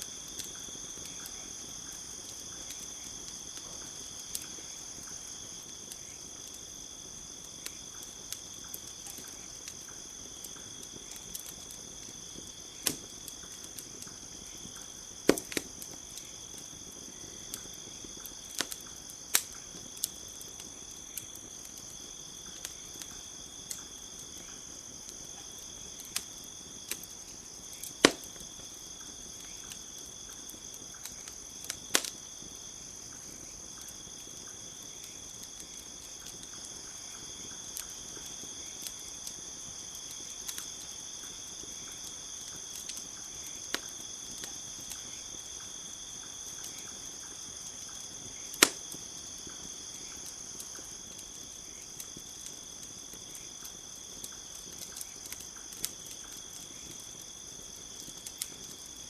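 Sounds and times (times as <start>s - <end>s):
campfire crackling and popping: 0.0s - 59.0s
crickets chirping: 0.0s - 59.0s.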